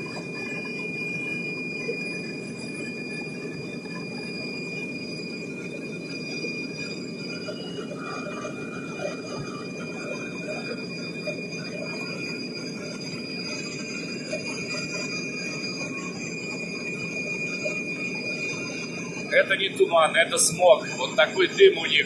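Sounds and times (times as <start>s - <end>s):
jet engine high whine: 0.0s - 22.0s
jet engines deep rumble: 0.0s - 22.0s.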